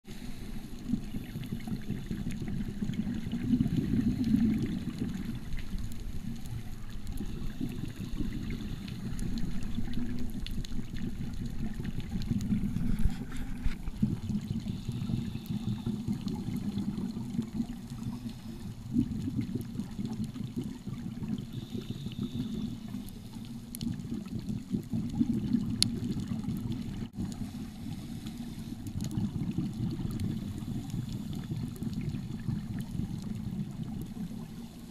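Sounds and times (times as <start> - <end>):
gurgle of exhaled bubbles: 0.1 - 34.9
low underwater rumble: 0.2 - 34.9.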